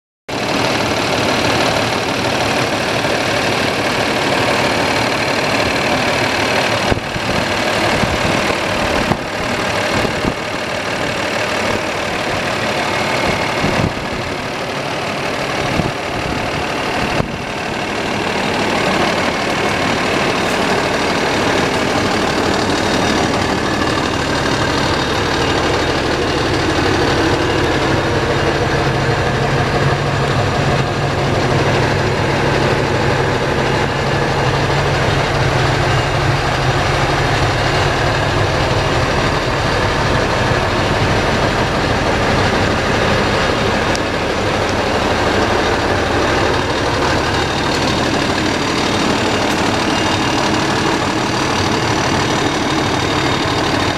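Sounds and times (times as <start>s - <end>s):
truck diesel engine idling: 0.3s - 53.9s.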